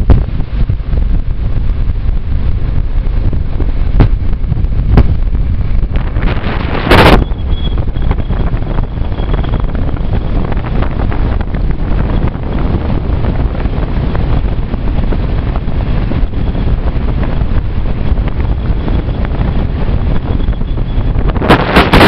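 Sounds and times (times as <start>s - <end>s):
loud burst of noise: 0.0s - 17.8s, 18.6s - 22.0s
train running rumble: 0.0s - 22.0s
wind rushing over microphone: 0.0s - 22.0s.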